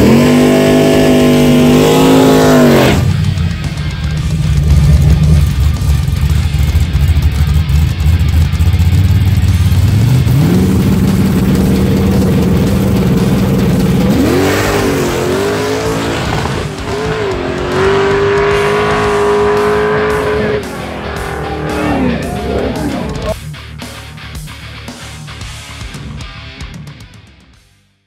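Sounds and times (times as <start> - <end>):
drag car engines revving: 0.0 - 23.4.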